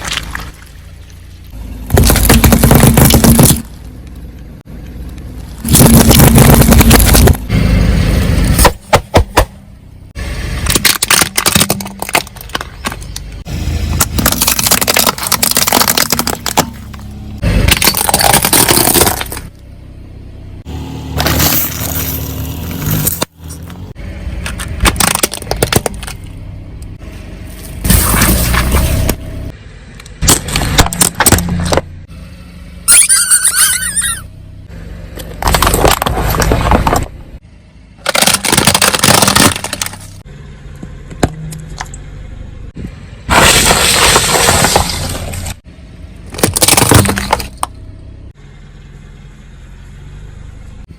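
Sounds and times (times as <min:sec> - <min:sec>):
car tyres crushing brittle objects: 0:00.0 - 0:09.6, 0:10.5 - 0:19.8, 0:21.1 - 0:32.1, 0:35.1 - 0:37.4, 0:38.0 - 0:42.1, 0:43.2 - 0:48.2.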